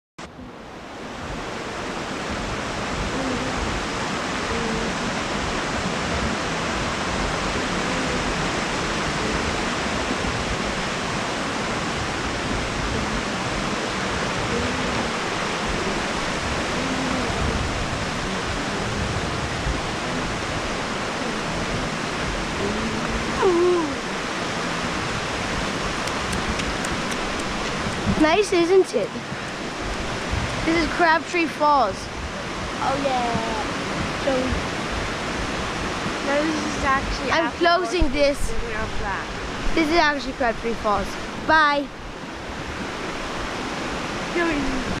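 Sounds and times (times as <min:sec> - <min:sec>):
creek rushing over boulders: 0:00.2 - 0:45.0.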